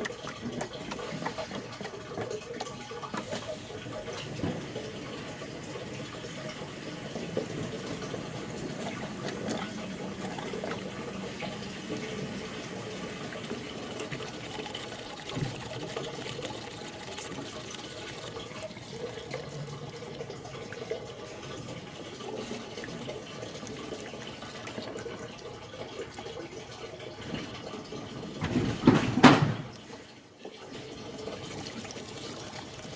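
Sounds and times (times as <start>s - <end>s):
liquid pouring from a jug: 0.0s - 32.9s.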